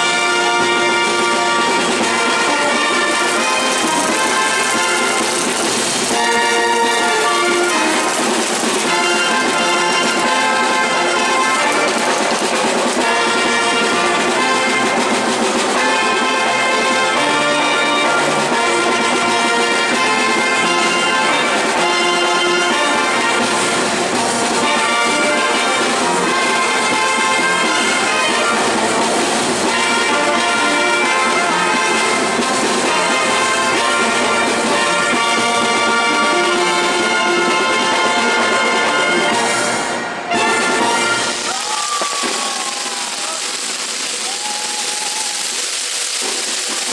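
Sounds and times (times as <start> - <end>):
brass band playing: 0.0 - 46.9.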